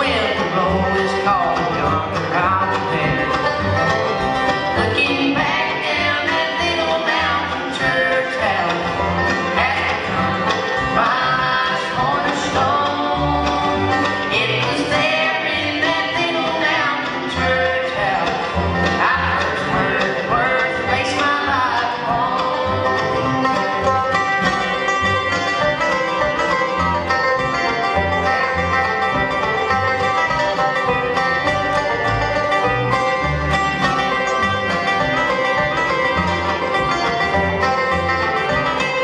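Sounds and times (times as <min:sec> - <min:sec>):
bluegrass band playing: 0:00.0 - 0:39.0.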